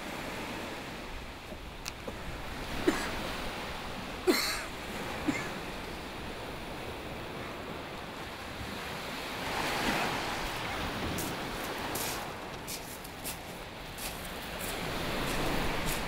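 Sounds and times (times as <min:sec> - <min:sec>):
waves washing onto shingle: 0:00.0 - 0:16.0
wind: 0:00.0 - 0:16.0.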